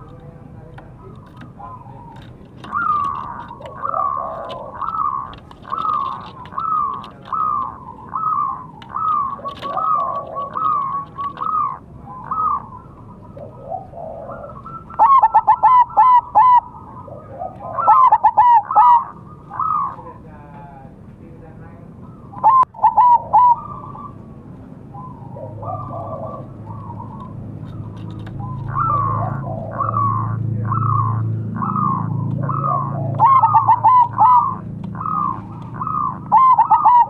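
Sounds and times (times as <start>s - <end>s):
dove cooing: 0.8s - 20.4s, 22.0s - 37.0s.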